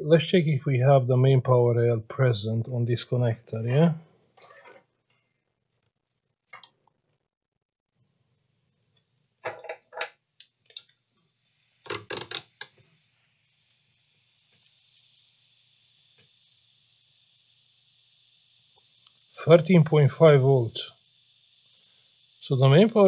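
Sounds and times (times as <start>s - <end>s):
faint steady hiss: 0.0s - 7.2s, 7.9s - 23.0s.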